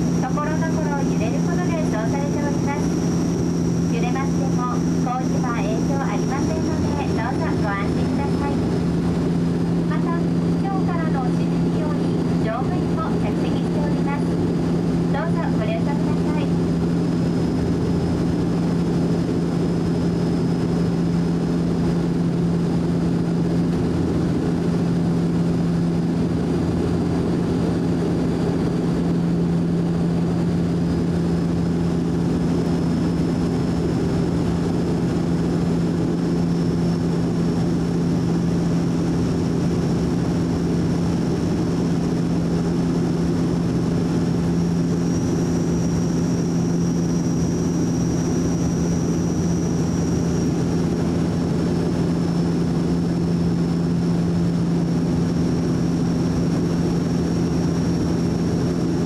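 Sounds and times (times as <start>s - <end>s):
faint high whine: 0.0s - 59.0s
turboprop engine drone: 0.0s - 59.0s.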